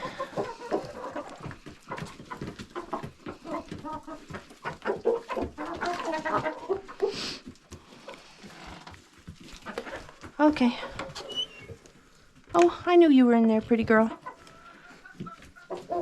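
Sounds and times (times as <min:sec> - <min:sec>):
hens clucking: 0:00.0 - 0:12.9, 0:13.5 - 0:16.0.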